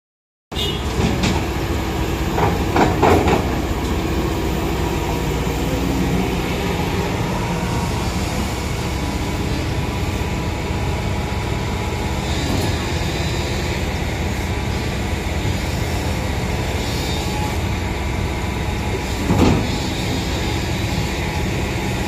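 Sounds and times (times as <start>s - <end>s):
excavator diesel engine running: 0.5s - 22.0s.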